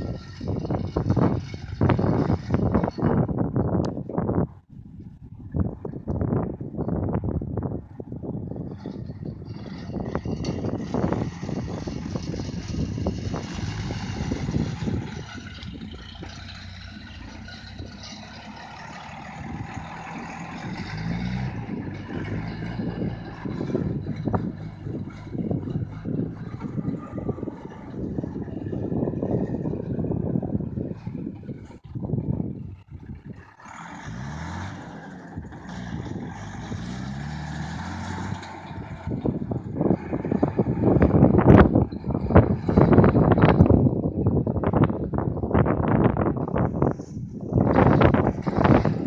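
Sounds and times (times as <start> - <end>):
tractor diesel engine under load: 0.0 - 49.0.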